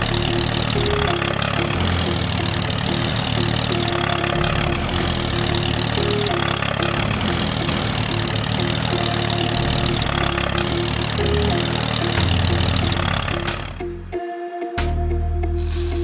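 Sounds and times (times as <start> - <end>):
small engine idling: 0.0 - 14.1.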